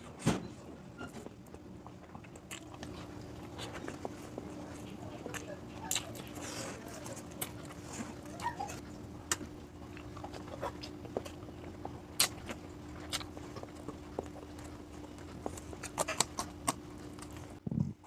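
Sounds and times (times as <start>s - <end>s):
chewing: 1.1s - 18.0s.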